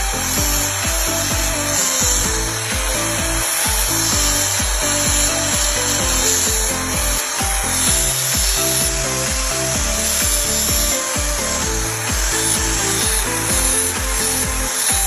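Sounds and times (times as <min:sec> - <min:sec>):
angle grinder grinding metal: 0:00.0 - 0:15.0
background music with beat: 0:00.0 - 0:15.0.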